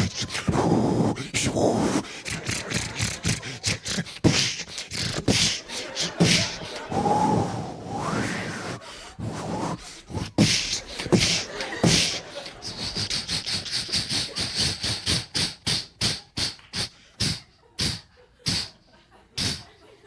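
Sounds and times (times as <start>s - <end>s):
man imitating steam train chuffs: 0.0s - 19.8s.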